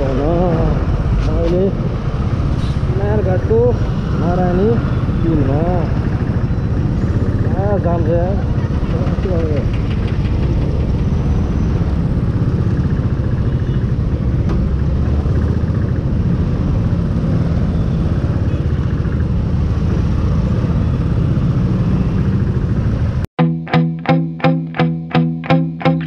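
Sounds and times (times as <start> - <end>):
motorcycle engine rumbling: 0.0 - 23.2.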